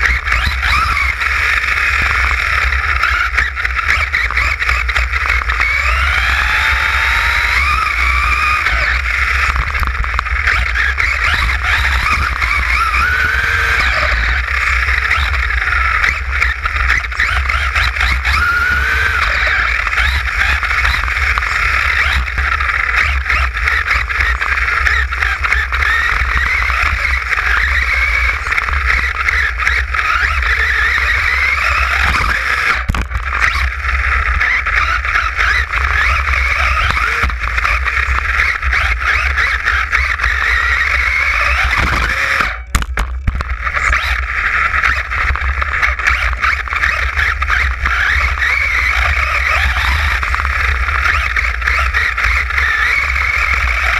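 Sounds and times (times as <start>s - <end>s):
low vibration rumble: 0.0s - 53.9s
rc car motor whine: 0.0s - 53.9s.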